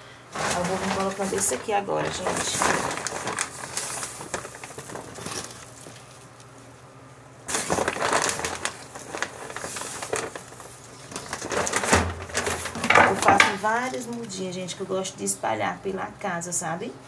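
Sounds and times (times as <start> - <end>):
potting soil crackling and rustling: 0.3 - 14.8.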